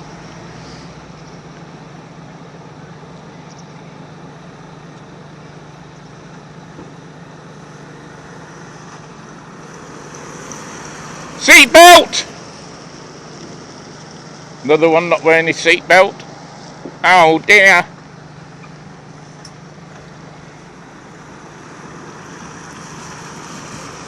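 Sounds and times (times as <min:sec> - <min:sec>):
traffic engine hum: 0:00.0 - 0:24.0.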